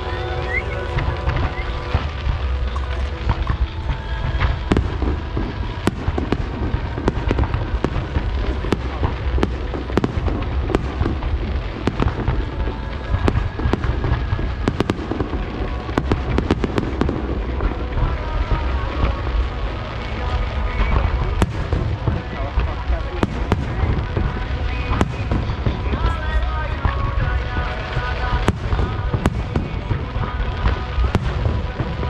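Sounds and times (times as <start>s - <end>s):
fireworks bangs and crackles: 0.0s - 32.0s
low rumble: 0.0s - 32.0s.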